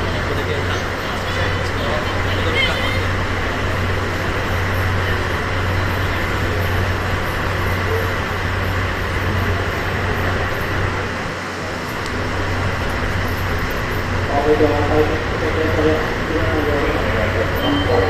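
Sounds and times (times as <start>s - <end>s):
locomotive engines running: 0.0s - 18.0s.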